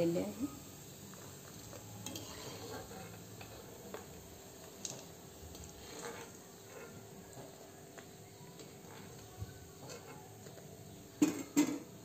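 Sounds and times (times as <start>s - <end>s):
pakoras frying in hot oil: 0.0s - 12.0s.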